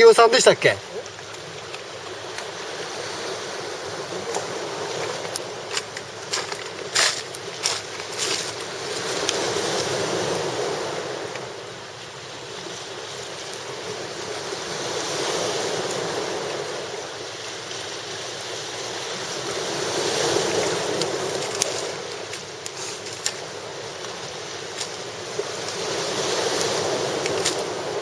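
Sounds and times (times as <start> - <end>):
sea waves washing on shore: 0.0 - 28.0.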